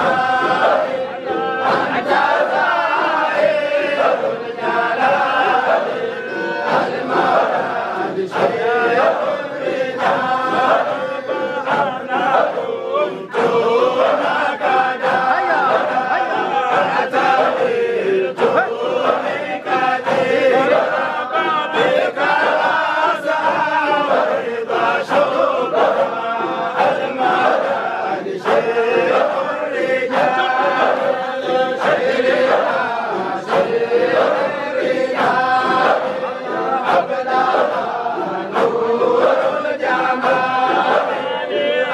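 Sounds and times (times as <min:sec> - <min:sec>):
crowd of men chanting: 0:00.0 - 0:41.9.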